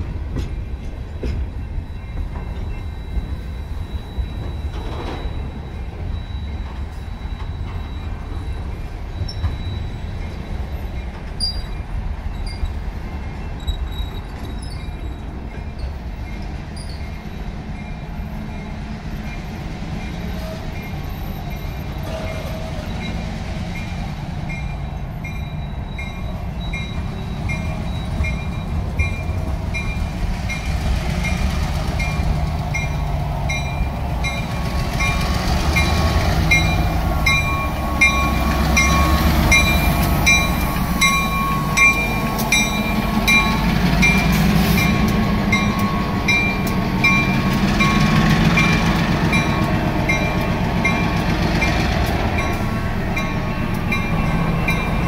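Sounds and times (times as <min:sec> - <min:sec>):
crossing bell ringing: 0:00.0 - 0:55.0
diesel locomotive engine: 0:00.0 - 0:55.0
freight train rumbling: 0:00.0 - 0:55.0.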